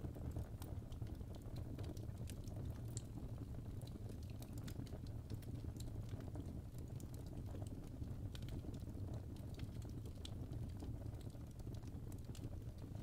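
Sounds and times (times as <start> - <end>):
fire crackling and popping: 0.0 - 13.0
low rumble of burning: 0.0 - 13.0.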